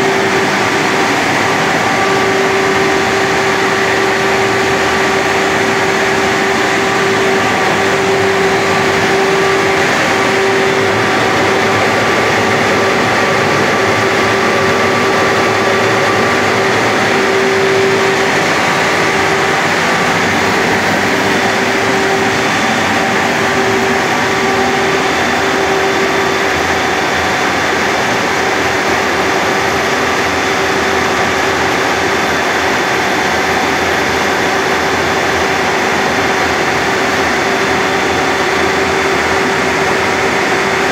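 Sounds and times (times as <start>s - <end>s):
grain drier fan rushing: 0.0s - 40.9s
mid-pitched hum: 0.0s - 40.9s.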